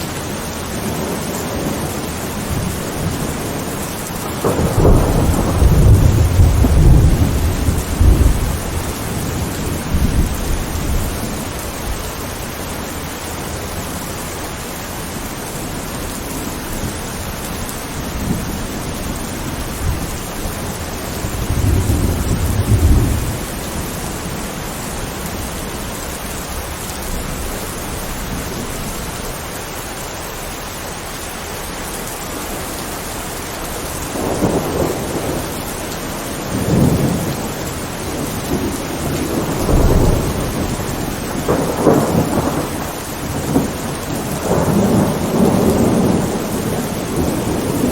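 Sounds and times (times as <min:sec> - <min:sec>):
thunder rumbling: 0:00.0 - 0:29.9, 0:32.3 - 0:47.9
steady rain falling: 0:00.0 - 0:47.9.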